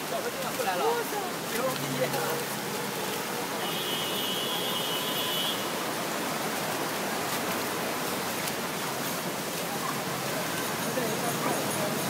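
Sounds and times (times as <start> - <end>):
heavy rain into standing water: 0.0 - 12.0.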